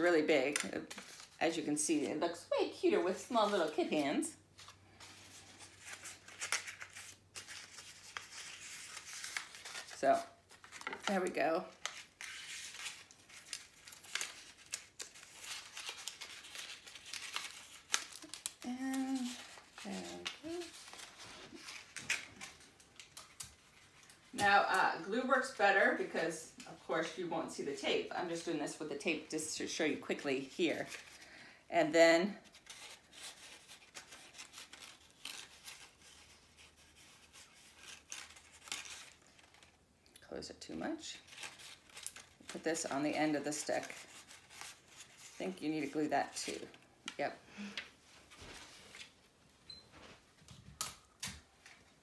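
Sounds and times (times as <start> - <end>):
paper rustling and crinkling: 0.5 - 2.2, 3.0 - 24.8, 28.2 - 31.3, 32.4 - 40.0, 41.1 - 49.4.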